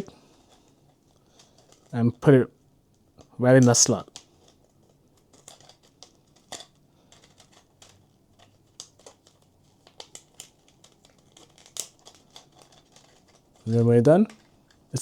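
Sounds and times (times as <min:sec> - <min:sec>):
plastic parts clicking and tapping: 0:00.0 - 0:02.0, 0:03.2 - 0:14.9.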